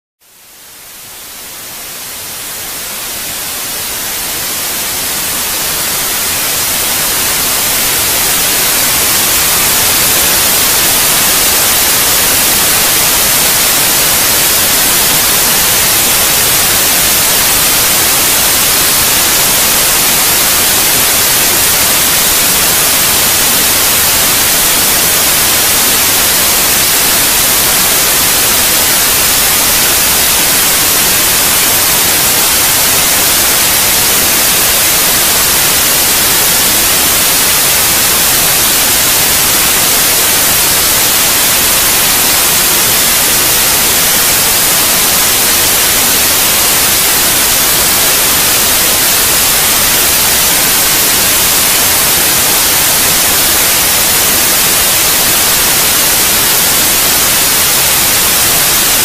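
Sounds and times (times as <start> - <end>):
steady white noise hiss: 0.2 - 59.0.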